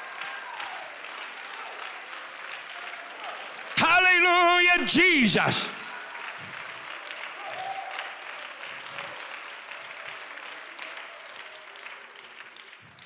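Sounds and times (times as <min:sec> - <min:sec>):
congregation applauding: 0:00.0 - 0:13.0.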